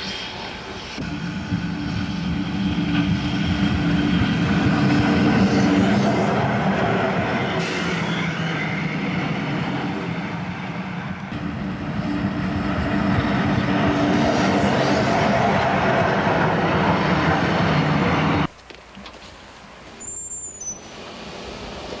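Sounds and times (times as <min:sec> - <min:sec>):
steam hissing: 0:00.0 - 0:18.5
low hum: 0:00.9 - 0:18.5.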